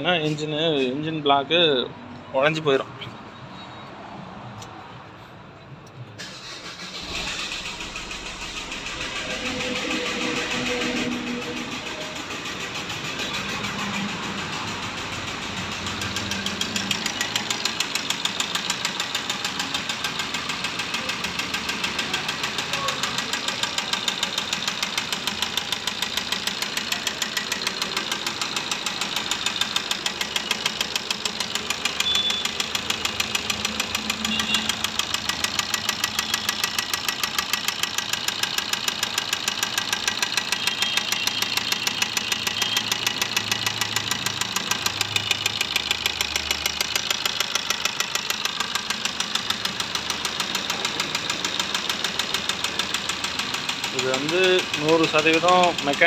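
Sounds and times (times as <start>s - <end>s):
diesel engine metallic knock: 8.3s - 56.0s.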